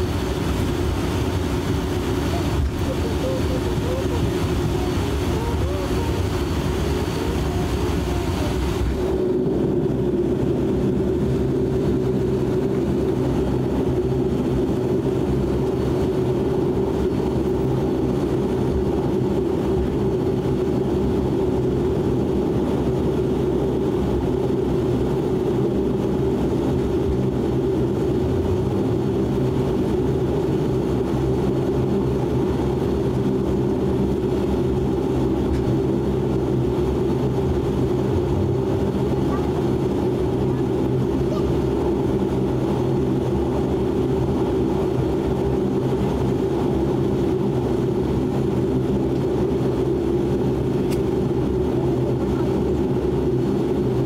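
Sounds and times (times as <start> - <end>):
turboprop engine drone: 0.0 - 54.0.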